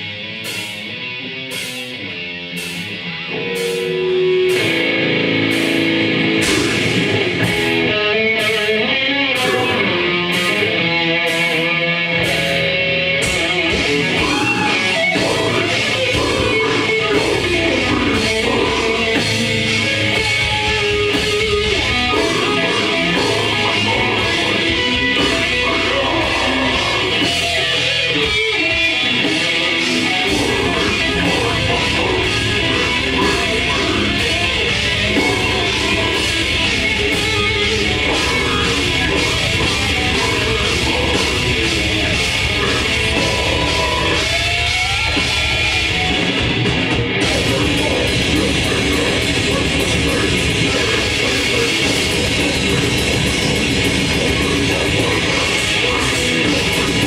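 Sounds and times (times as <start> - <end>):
distorted electric guitar: 0.0 - 57.0
drums: 0.0 - 57.0.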